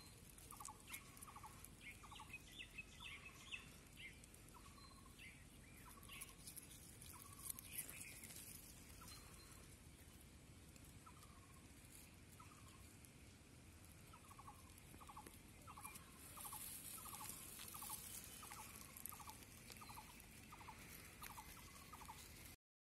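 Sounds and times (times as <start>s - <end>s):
faint bird calls: 0.0s - 9.8s, 11.0s - 13.0s, 14.0s - 22.6s
steady low hiss: 0.0s - 22.6s.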